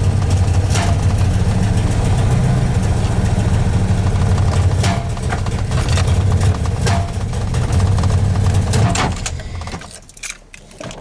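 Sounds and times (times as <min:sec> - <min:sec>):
engine idling roughly: 0:00.0 - 0:09.7.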